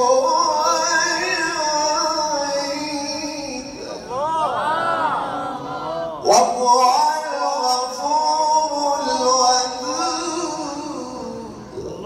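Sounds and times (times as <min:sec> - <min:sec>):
man chanting melodically: 0:00.0 - 0:04.4, 0:05.8 - 0:12.0.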